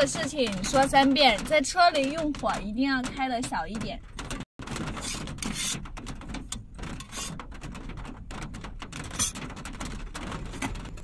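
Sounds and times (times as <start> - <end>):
rain pattering on a vehicle roof: 0.0 - 11.0.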